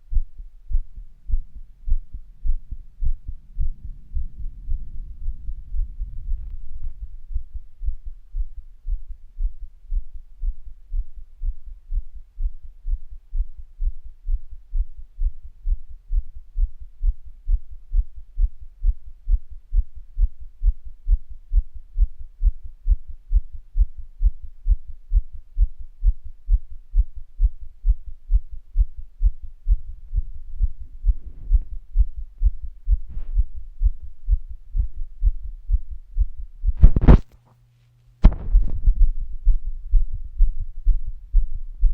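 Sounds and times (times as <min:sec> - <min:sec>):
fast heartbeat: 0:00.0 - 0:37.3, 0:38.2 - 0:41.9.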